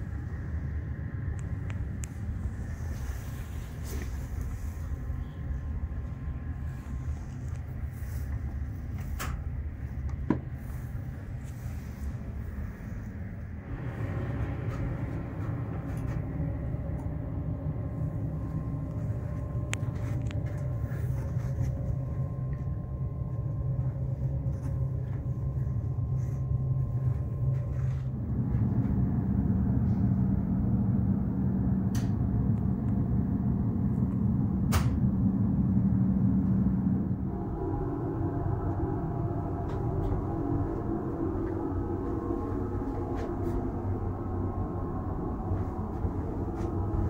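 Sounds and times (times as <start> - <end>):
train car hum and rumble: 0.0 - 47.0.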